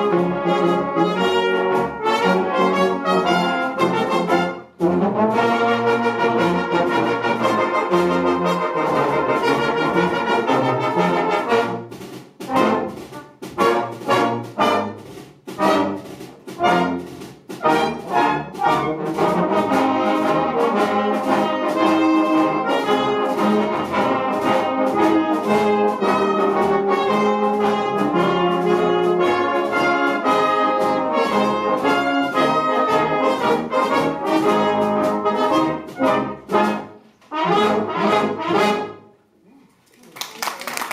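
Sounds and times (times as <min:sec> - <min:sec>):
brass band playing a march: 0:00.0 - 0:39.2.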